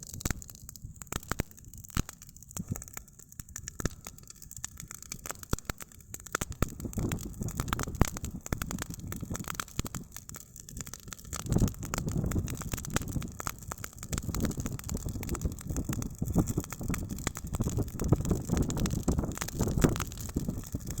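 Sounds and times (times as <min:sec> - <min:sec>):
campfire wood crackling: 0:00.0 - 0:21.0.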